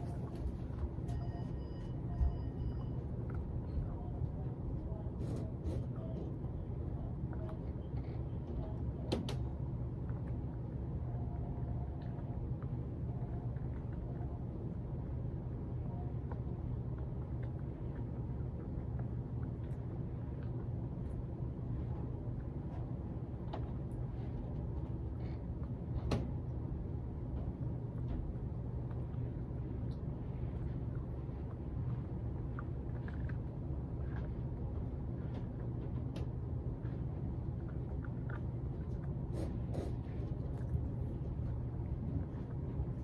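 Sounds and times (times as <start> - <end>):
puppy gnawing on bone: 0.0 - 43.0
steady low hum: 0.0 - 43.0.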